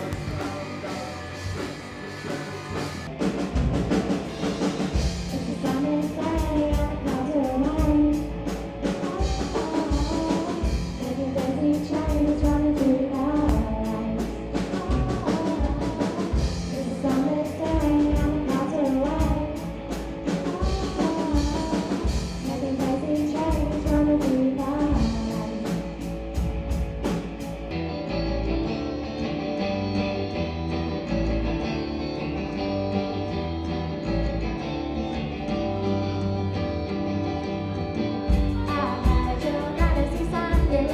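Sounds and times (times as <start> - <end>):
rock band with singing: 0.0 - 40.9
strummed guitar: 0.0 - 40.9.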